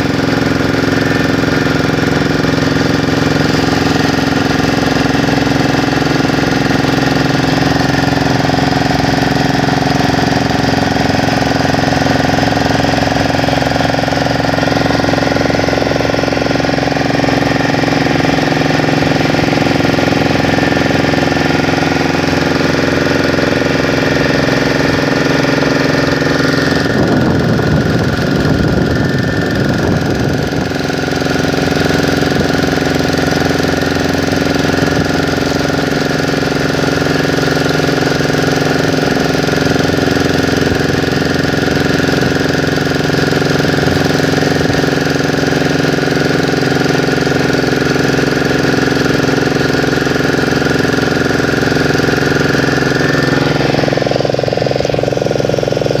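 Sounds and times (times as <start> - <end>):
motorboat engine droning: 0.0 - 56.0
water rushing along hull: 0.0 - 56.0.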